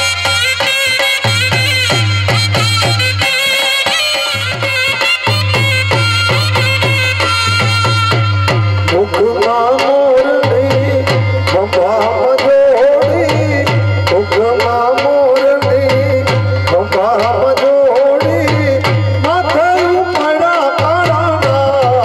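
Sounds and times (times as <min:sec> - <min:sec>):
folk music: 0:00.0 - 0:22.0.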